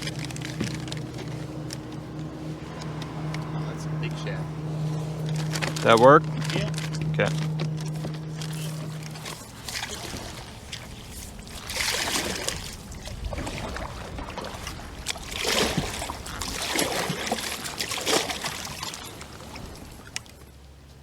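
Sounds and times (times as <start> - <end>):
paddle strokes splashing water: 0.0 - 20.8
low wind rumble: 0.0 - 21.0.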